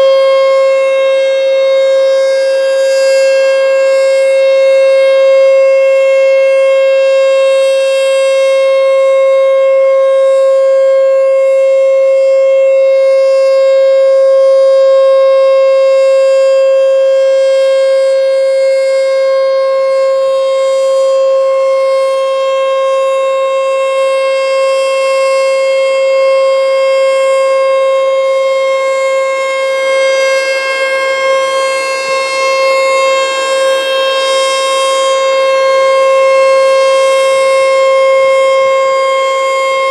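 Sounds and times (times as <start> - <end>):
steady warning siren: 0.0 - 39.9.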